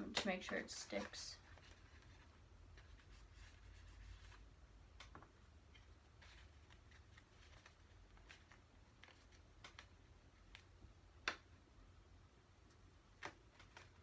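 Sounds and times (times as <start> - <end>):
paper rustling: 0.2 - 10.7, 13.1 - 14.0.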